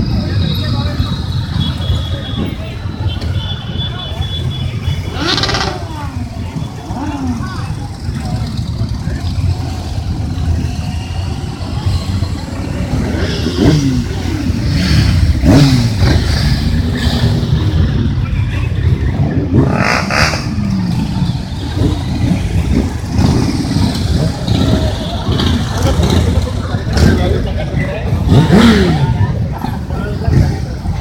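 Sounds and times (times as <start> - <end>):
motorcycles revving and passing: 0.0 - 31.0.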